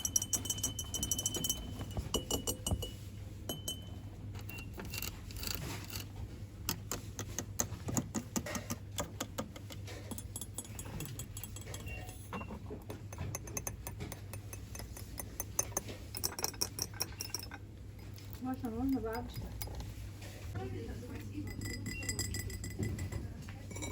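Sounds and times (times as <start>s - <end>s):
small hard objects tapping and clinking: 0.0s - 6.0s, 6.7s - 20.0s, 21.4s - 23.9s.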